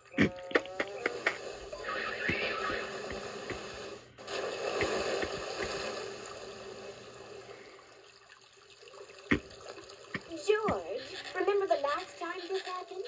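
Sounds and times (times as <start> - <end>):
cartoon water gushing: 0.0 - 12.0.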